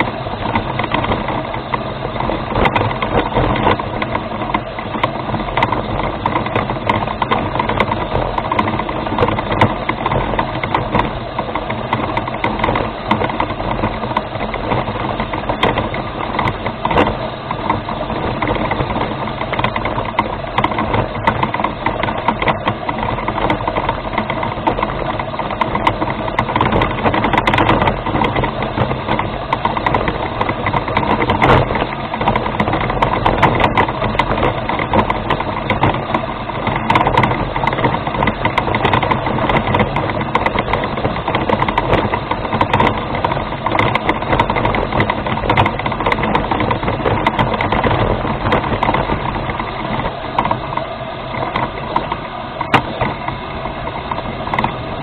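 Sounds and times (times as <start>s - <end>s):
small clicks and rattles: 0.0s - 55.0s.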